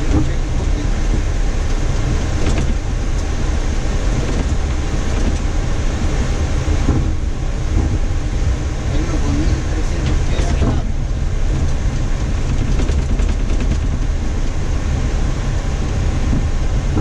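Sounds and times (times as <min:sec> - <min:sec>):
jet engines low rumble: 0:00.0 - 0:17.0.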